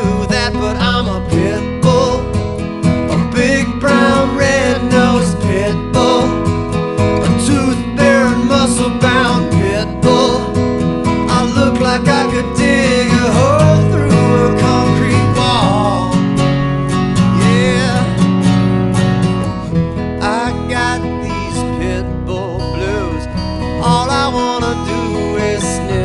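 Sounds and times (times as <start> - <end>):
man singing blues: 0.0 - 18.6, 20.1 - 26.0
strummed acoustic guitar: 0.0 - 26.0.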